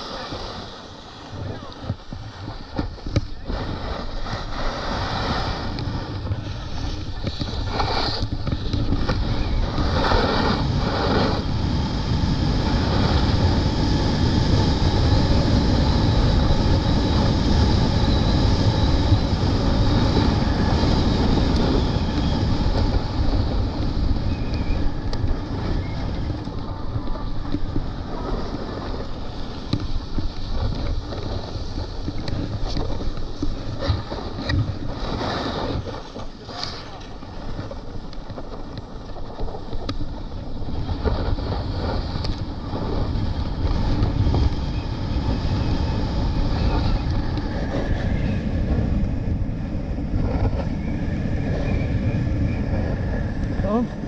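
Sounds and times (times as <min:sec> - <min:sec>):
snowboard scraping on snow: 0:00.0 - 0:53.0.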